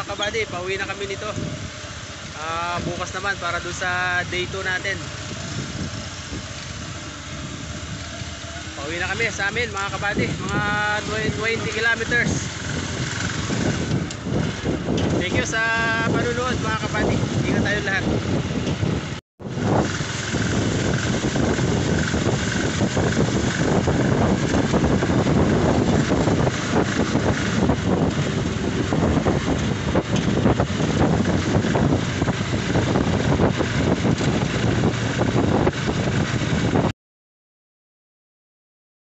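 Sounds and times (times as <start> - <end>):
vehicle engine running: 0.0 - 36.9
wind buffeting microphone: 0.0 - 36.9.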